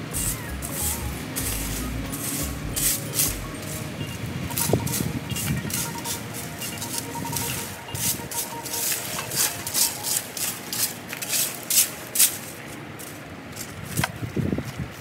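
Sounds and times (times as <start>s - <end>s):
broom sweeping the ground: 0.0s - 15.0s.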